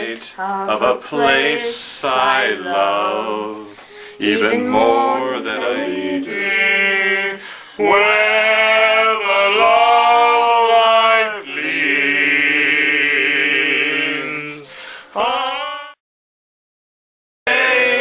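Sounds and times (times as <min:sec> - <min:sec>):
men singing a slow ballad: 0:00.6 - 0:16.0.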